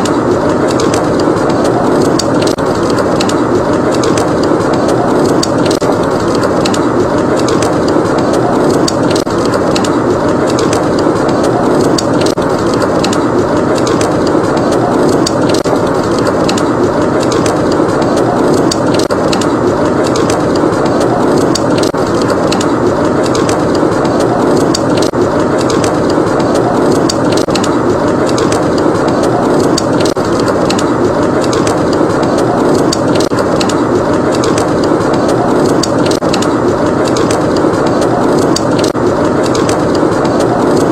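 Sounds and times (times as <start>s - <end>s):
log fire crackling and popping: 0.0s - 40.9s.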